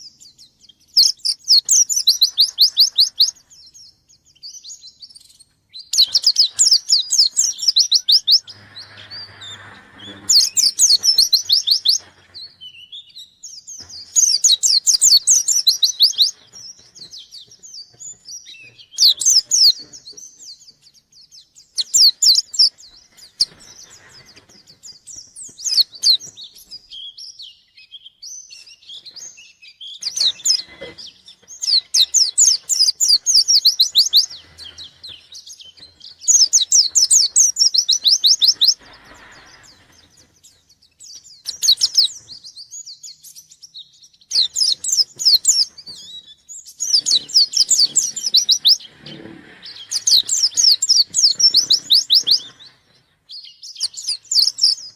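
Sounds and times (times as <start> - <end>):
bird trilling song: 0.0 - 54.9
soft bird twittering: 0.0 - 54.9.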